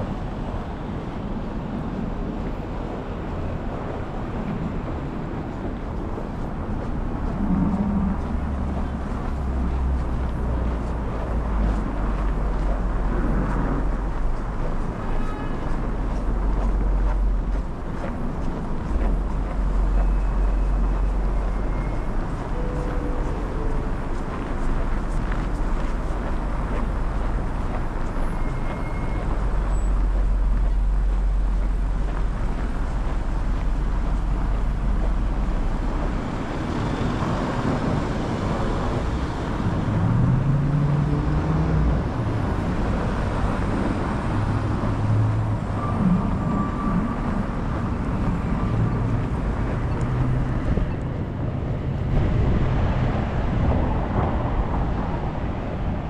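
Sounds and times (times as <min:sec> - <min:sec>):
cars and trucks passing: 0:00.0 - 0:56.0
heavy low rumble: 0:00.0 - 0:56.0.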